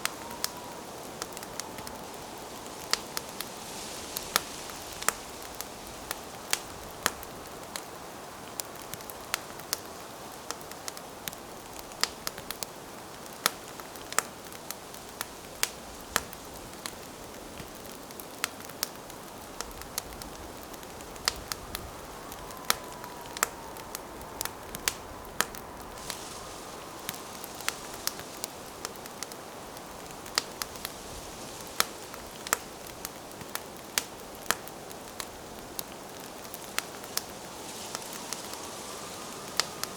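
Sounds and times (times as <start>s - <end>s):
burning wood crackling and popping: 0.0s - 39.9s
campfire flame hiss: 0.0s - 39.9s.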